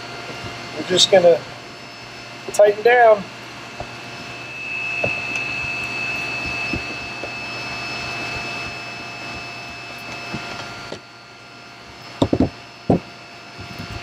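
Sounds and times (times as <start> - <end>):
machine hum with high whine: 0.0 - 14.0.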